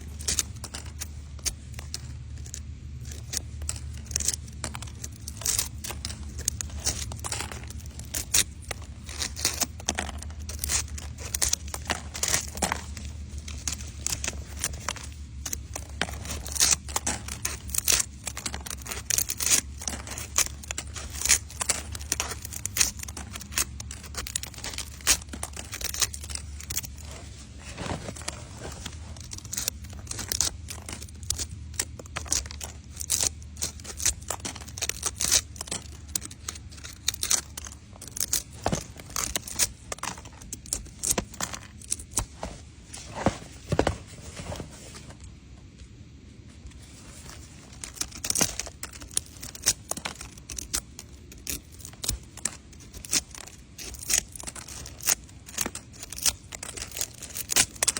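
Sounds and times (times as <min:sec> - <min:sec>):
crinkling and tearing: 0:00.0 - 0:57.9
steady low hum: 0:00.0 - 0:57.9.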